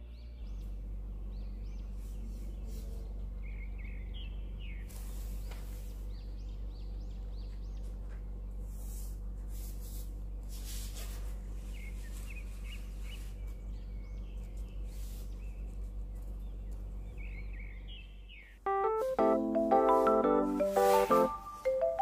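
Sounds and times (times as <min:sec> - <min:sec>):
birds chirping: 0:00.0 - 0:08.8, 0:11.4 - 0:22.0
steady low hum: 0:00.0 - 0:22.0.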